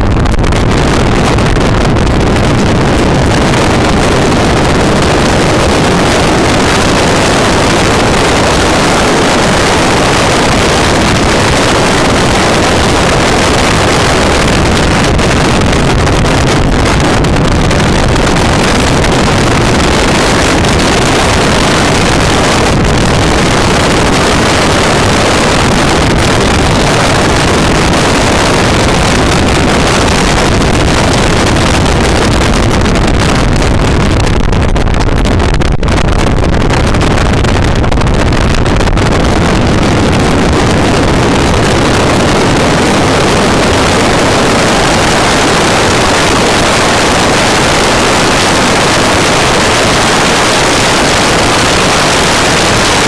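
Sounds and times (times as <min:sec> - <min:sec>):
car engine and tyre noise: 0:00.0 - 0:53.0
wind rushing on microphone: 0:00.0 - 0:53.0.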